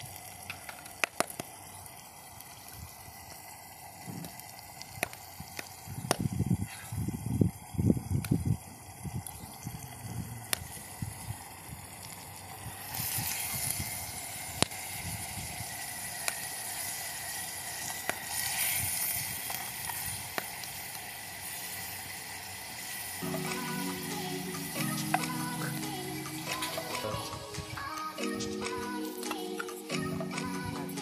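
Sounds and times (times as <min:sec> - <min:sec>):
onions sizzling in hot oil: 0:00.0 - 0:27.8.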